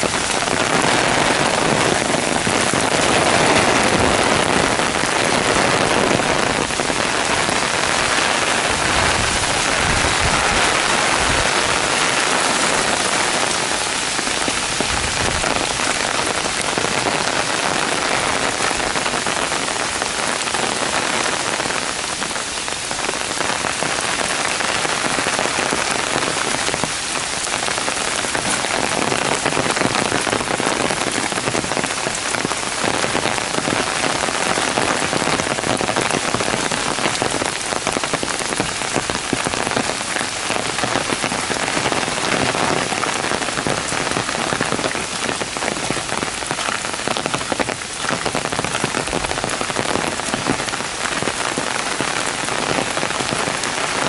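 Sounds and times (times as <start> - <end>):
heavy rain on gravel and leaves: 0.0 - 54.0.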